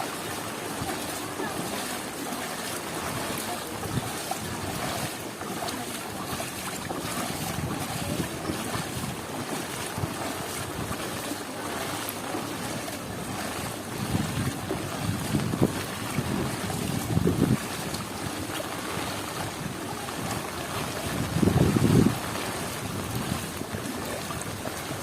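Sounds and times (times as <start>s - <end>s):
wind buffeting microphone: 3.2s - 11.3s, 12.9s - 25.0s.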